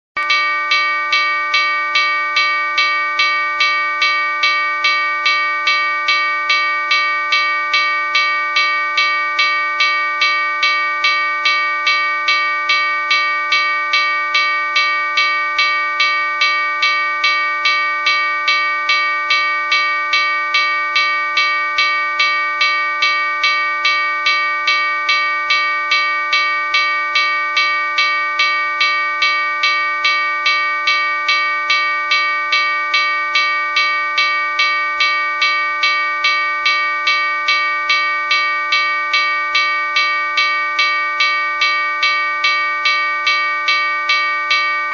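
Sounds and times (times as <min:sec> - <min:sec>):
railroad crossing bell ringing: 0:00.2 - 0:44.9.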